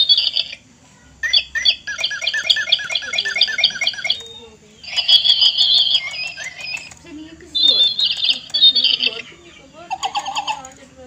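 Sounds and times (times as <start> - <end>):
toy bird chirping electronically: 0.0 - 0.6, 1.2 - 10.9.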